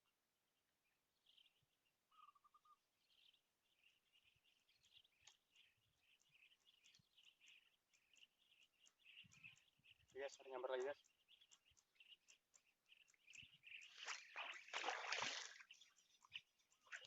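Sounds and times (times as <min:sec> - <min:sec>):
faint high bird chirping: 0:01.2 - 0:17.0.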